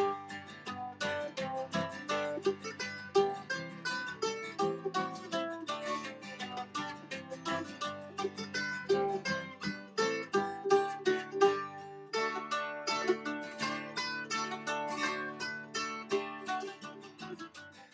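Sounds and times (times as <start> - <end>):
plucked strings melody: 0.0 - 17.9.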